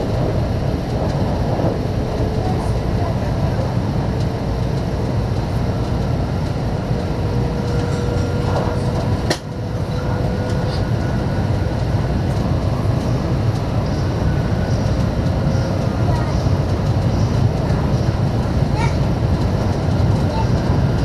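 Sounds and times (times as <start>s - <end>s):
train rumbling at speed: 0.0s - 21.0s.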